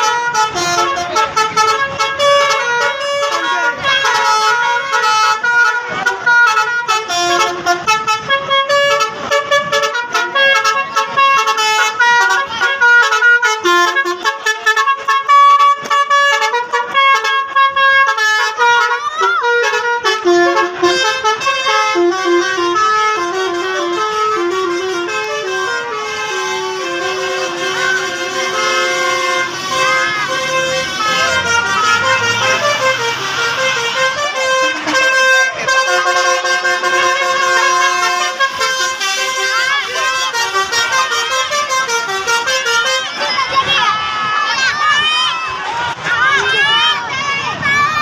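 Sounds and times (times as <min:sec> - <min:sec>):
multi-tone bus horn melody: 0:00.0 - 0:44.6.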